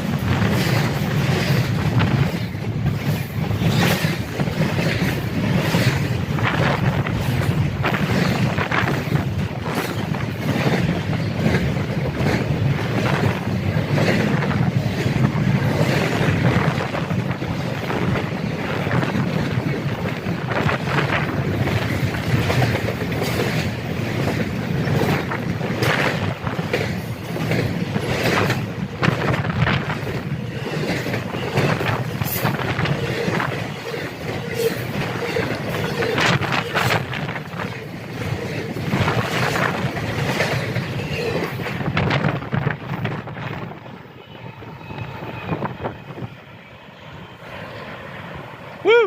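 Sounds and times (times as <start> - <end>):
train wheels clattering on rails: 0.0 - 46.5
wind buffeting microphone: 0.0 - 48.5.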